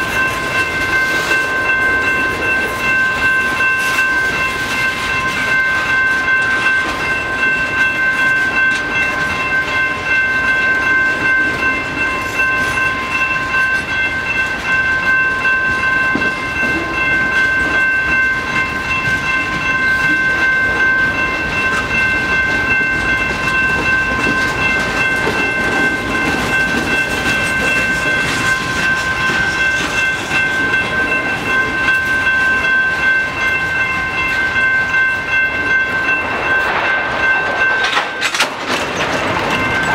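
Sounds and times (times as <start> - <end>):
crossing warning bell ringing: 0.0 - 39.9
train wheels clattering on track: 0.0 - 39.9.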